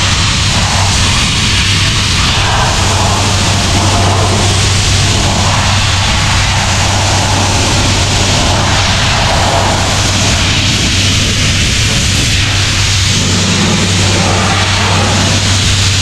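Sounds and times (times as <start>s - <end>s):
air compressor droning: 0.0s - 16.0s
compressed air blowpipe hissing: 0.0s - 16.0s.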